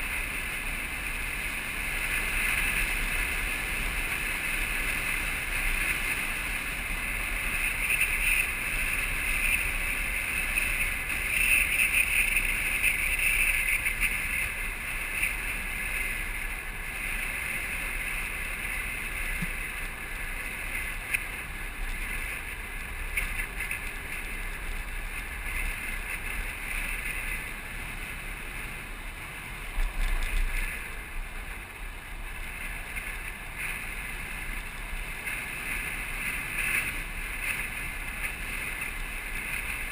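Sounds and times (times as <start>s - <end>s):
wheels rolling: 0.0s - 39.9s.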